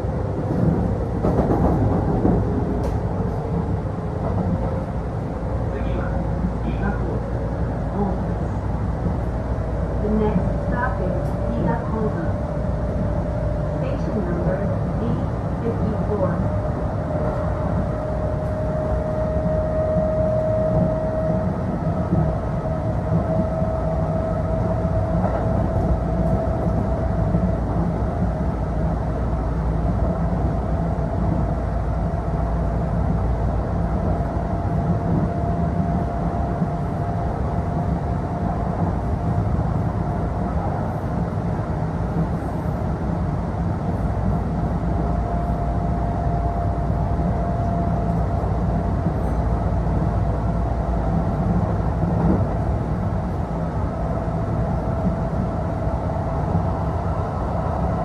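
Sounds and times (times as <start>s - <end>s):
electric train rumbling: 0.0s - 58.0s.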